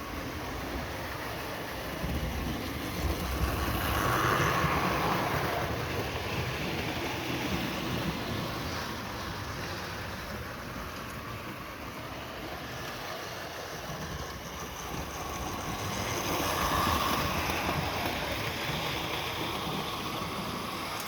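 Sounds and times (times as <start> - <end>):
wheels rattling on rails: 0.0 - 21.0
model train motor whirring: 0.1 - 21.0.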